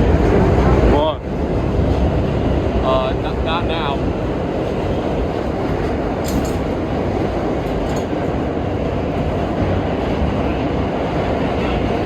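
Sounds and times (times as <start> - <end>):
subway car wheels rumbling: 0.0 - 12.0.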